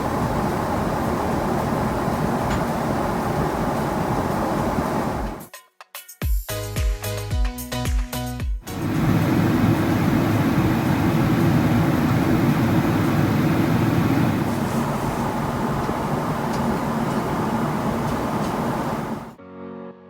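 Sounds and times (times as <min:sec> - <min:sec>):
airliner cabin roar: 0:00.0 - 0:05.5, 0:08.7 - 0:19.4.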